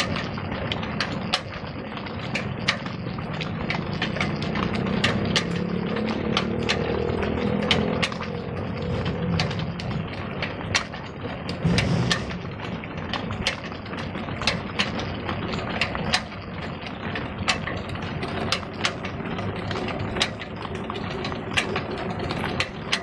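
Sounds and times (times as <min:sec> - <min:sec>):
belt-driven machinery rumbling: 0:00.0 - 0:23.0
sharp irregular clicks: 0:00.0 - 0:23.0.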